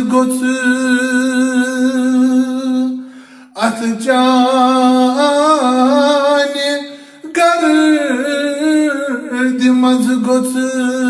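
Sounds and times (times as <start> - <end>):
man singing unaccompanied: 0.0 - 3.0, 3.6 - 11.0.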